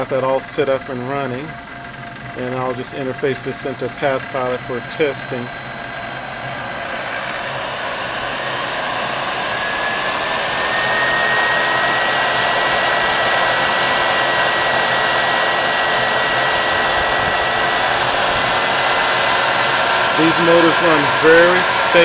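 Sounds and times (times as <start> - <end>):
electric motor humming with whine: 0.0 - 22.0.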